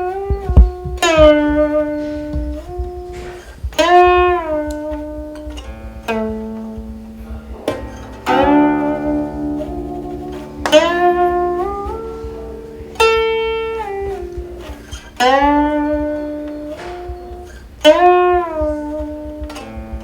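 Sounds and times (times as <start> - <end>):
plucked zither notes bending: 0.0 - 20.0
struck chord ringing: 1.1 - 20.0.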